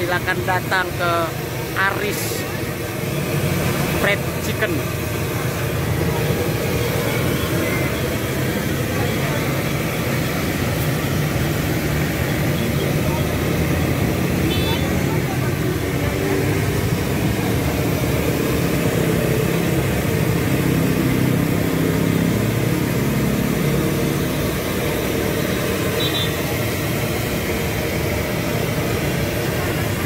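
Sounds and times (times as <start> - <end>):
motorbikes and cars passing: 0.0 - 30.0.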